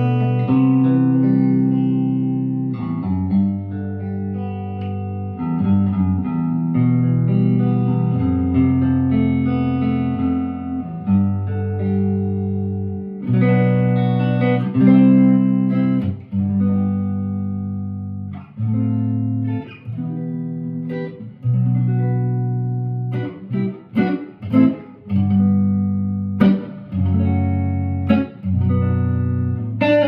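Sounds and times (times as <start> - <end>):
electric guitar strumming chords: 0.0 - 30.0.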